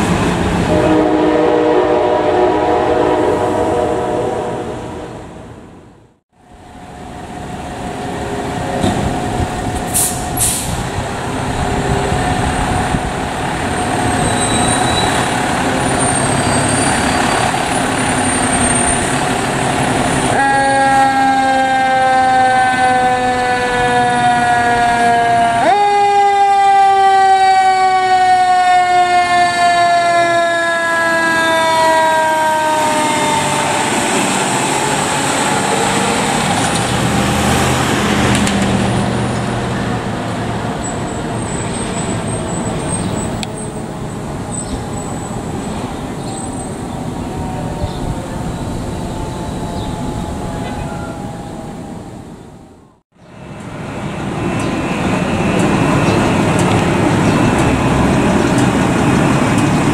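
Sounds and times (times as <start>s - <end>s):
fire engine running: 6.0s - 59.9s.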